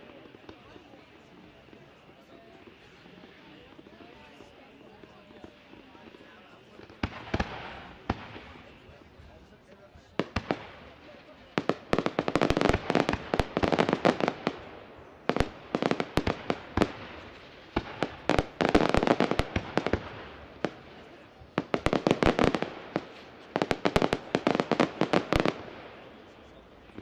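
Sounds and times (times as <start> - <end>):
fireworks crackling pops: 0.0 - 27.0.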